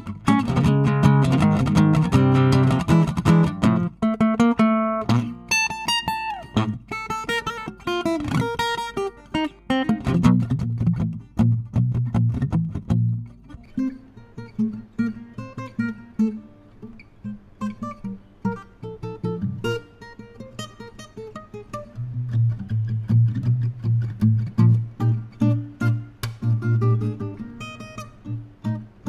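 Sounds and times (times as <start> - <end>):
acoustic guitar played solo: 0.0 - 29.0.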